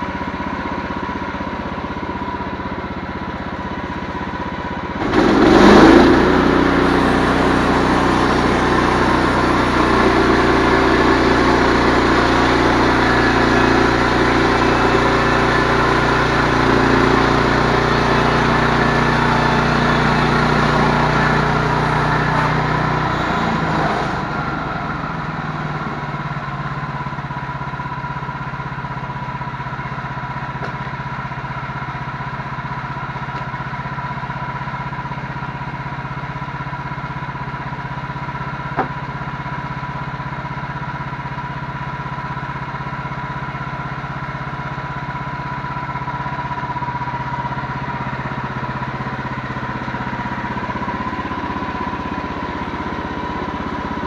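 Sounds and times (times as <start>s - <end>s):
engine running with whine: 0.0s - 54.0s.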